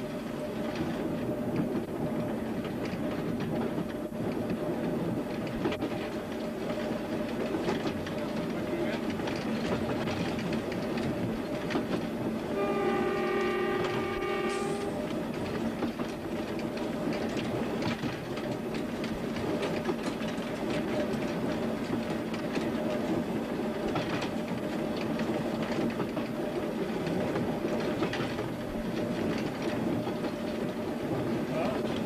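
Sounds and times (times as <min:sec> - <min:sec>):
train drone: 0:00.0 - 0:32.0
train wheels clattering over track: 0:00.0 - 0:32.0.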